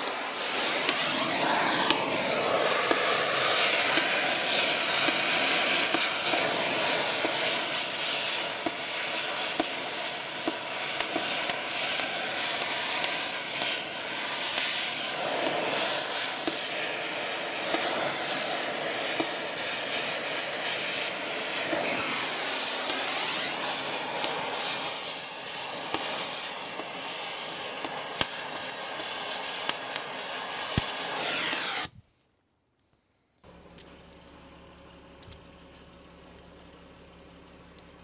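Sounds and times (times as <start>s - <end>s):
cutting torch hissing: 0.0s - 32.0s
crackles: 0.0s - 38.0s.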